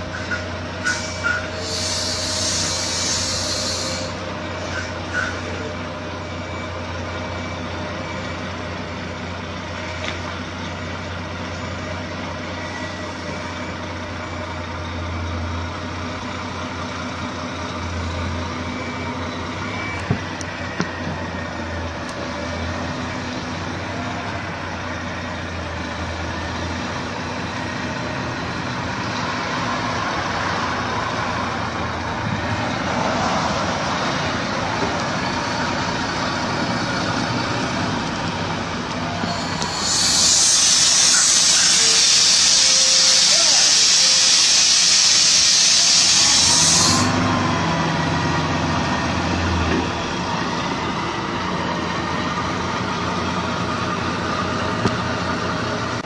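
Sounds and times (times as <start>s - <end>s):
diesel truck engine droning: 0.0s - 56.0s.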